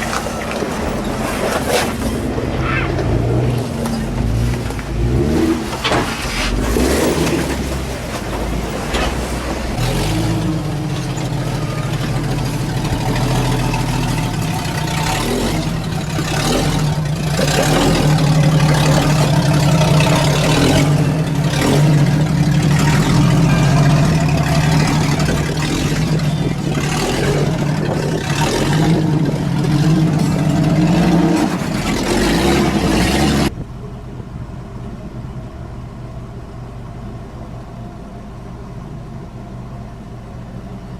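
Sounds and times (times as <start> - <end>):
off-road engine revving: 0.0 - 33.6.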